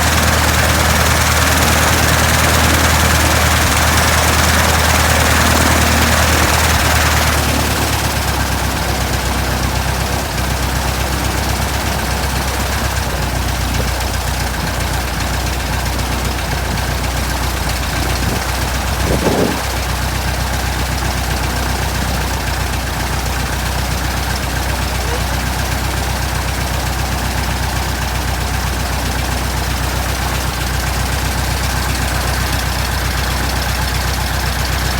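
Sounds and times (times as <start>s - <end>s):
aircraft engine running: 0.0s - 34.9s.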